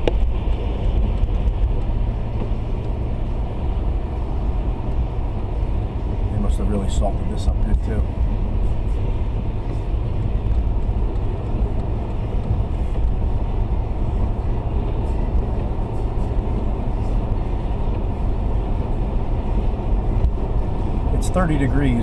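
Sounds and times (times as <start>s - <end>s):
car road noise: 0.0s - 22.0s.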